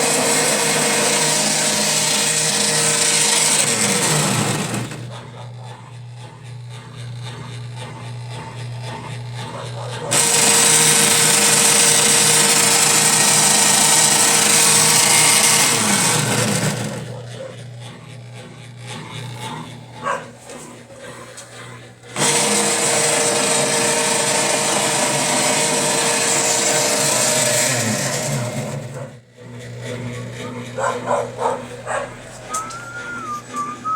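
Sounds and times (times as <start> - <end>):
washing machine rough running noise: 0.0 - 33.9.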